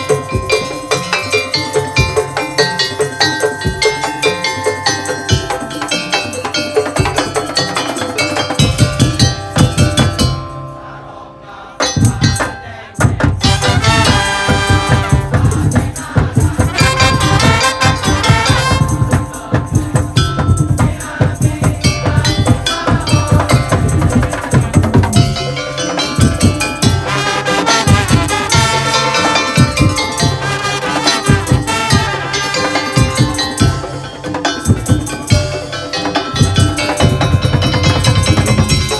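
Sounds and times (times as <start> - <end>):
heavy low drum beats: 0.0 - 10.4, 11.9 - 38.9
percussion ensemble playing: 0.0 - 11.2, 11.8 - 38.9.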